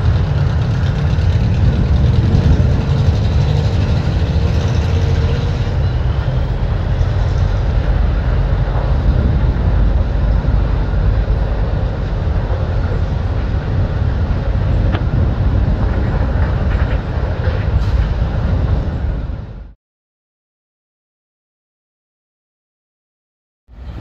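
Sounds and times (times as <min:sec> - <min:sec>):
diesel locomotive engine rumbling: 0:00.0 - 0:19.8, 0:23.7 - 0:24.0.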